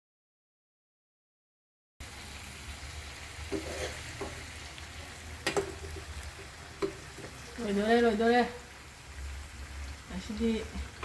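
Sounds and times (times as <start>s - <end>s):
food sizzling in a pan: 2.0s - 11.0s.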